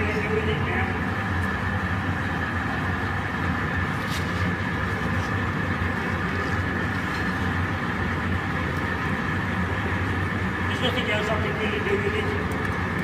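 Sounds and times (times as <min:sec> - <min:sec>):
constant low hum: 0:00.0 - 0:13.0
gas burner rushing: 0:00.0 - 0:13.0.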